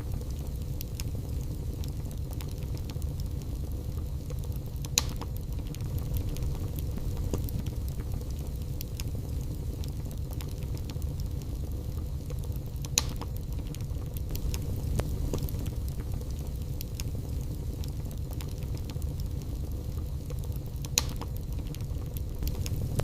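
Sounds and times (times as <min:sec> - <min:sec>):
logs crackling and popping: 0:00.0 - 0:23.0
low rumble of fire: 0:00.0 - 0:23.0.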